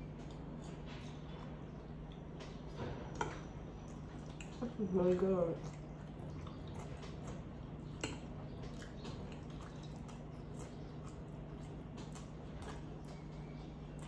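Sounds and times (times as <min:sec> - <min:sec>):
steady low hum: 0:00.0 - 0:14.0
wet chewing: 0:00.0 - 0:14.0.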